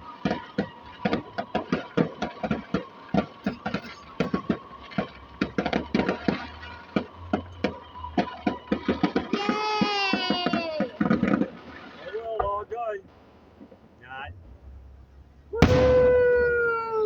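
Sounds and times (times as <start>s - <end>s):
distant fireworks bangs: 0.0s - 14.6s, 15.6s - 17.0s.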